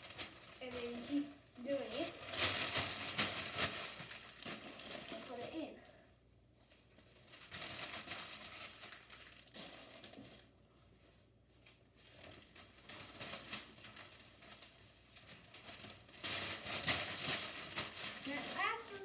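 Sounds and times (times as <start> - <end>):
newspaper crumpling: 0.0 - 5.8, 6.8 - 19.0.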